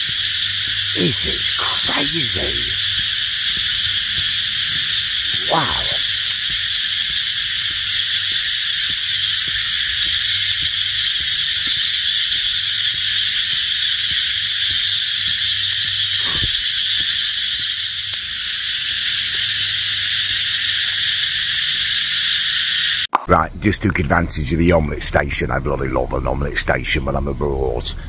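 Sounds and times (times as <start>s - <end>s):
insects shrilling chorus: 0.0s - 23.0s.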